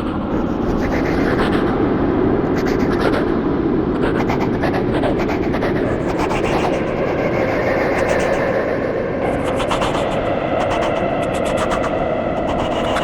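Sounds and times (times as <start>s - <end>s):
rumbling drone: 0.0s - 13.0s.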